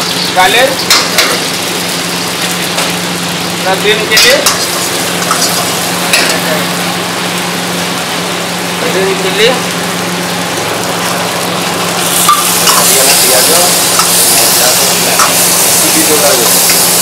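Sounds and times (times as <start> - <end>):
aromatics sizzling in hot oil: 0.0 - 17.0.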